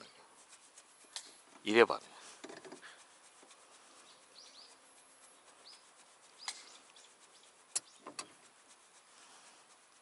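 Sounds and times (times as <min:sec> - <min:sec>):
bird chirping: 0:00.0 - 0:01.6, 0:02.2 - 0:09.5
quiet outdoor ambience: 0:00.0 - 0:10.0.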